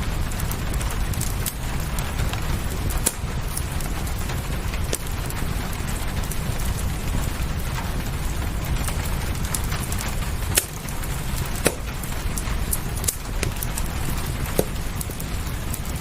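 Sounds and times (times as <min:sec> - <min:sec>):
steady rain hiss: 0:00.0 - 0:16.0
wood fire crackling: 0:00.0 - 0:16.0.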